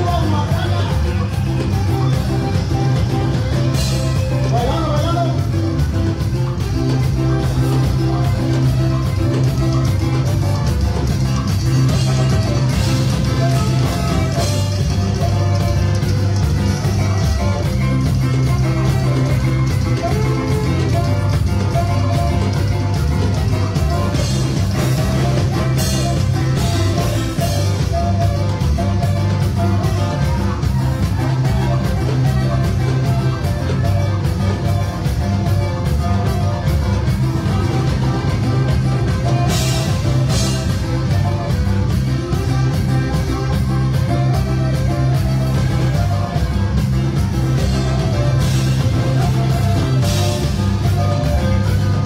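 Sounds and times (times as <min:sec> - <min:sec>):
bass line: 0:00.0 - 0:52.0
drums keeping a steady beat: 0:00.0 - 0:52.0
guitar: 0:00.0 - 0:52.0
live band playing dance music: 0:00.0 - 0:52.0.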